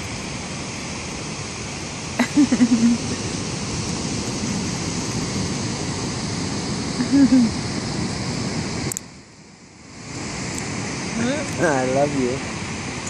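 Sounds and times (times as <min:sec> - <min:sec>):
ocean surf on beach: 0:00.0 - 0:13.0.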